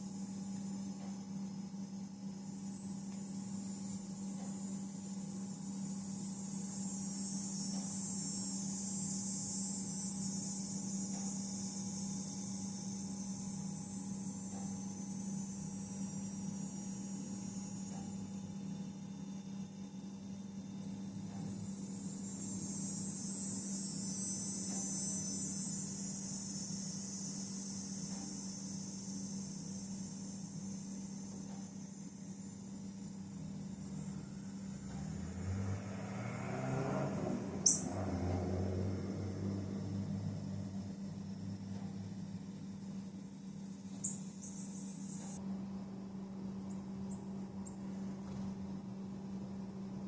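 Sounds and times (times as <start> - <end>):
high-pitched insect drone: 0.0 - 50.0
steady low hum: 0.0 - 50.0.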